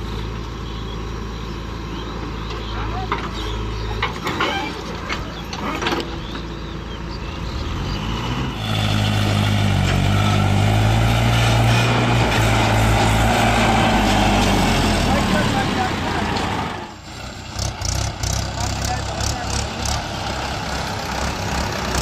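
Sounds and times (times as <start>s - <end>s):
diesel engines running: 0.0s - 22.0s
tractor engine pulling under load: 0.0s - 22.0s.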